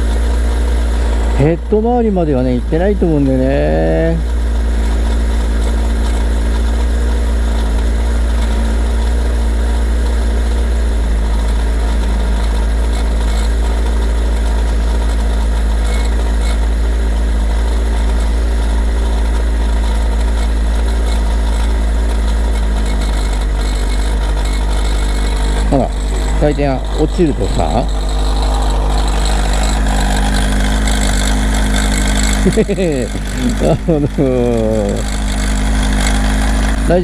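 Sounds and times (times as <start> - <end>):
abnormal mechanical engine noise: 0.0 - 37.0
motorcycle engine idling: 0.0 - 37.0.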